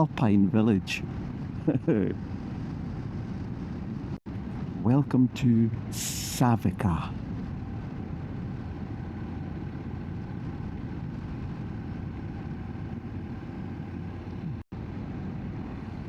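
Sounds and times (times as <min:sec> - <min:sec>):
wind noise on microphone: 0:00.0 - 0:16.0
motorcycle engine drone: 0:00.9 - 0:16.0.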